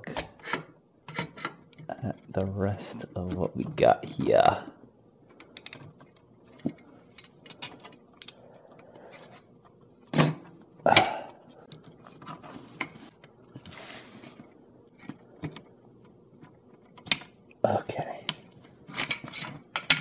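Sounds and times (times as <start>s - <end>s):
wires rustling: 0.0s - 17.6s.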